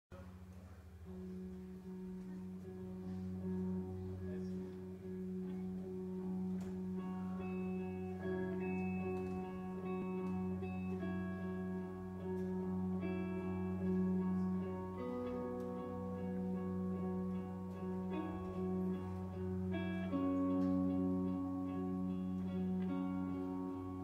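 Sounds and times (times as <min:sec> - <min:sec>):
guitar picking notes: 0:00.1 - 0:24.0
steady low drone: 0:00.1 - 0:24.0.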